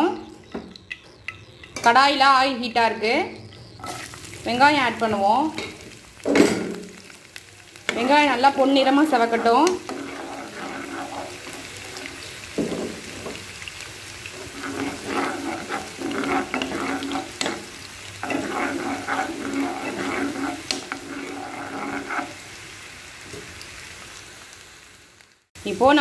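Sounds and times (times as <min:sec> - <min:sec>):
onions sizzling in hot oil: 0:00.0 - 0:26.0
spoon stirring and scraping pan: 0:00.2 - 0:02.2, 0:03.5 - 0:23.9.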